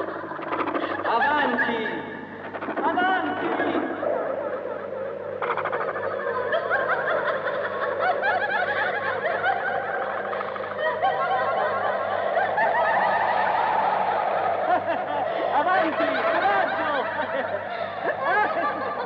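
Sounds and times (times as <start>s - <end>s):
overlapping bursts of laughter: 0.0s - 1.3s, 2.4s - 19.0s
low pulsing hum: 0.0s - 19.0s.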